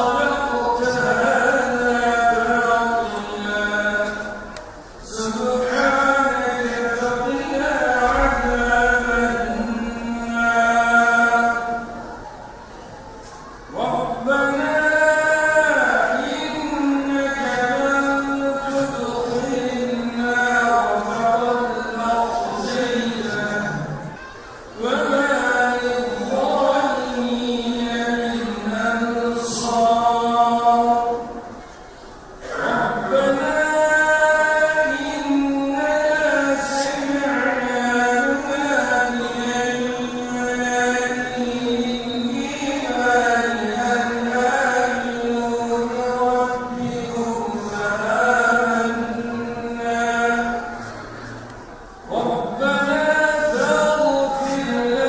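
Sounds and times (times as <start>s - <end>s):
man chanting recitation: 0.0s - 12.4s, 13.6s - 55.0s.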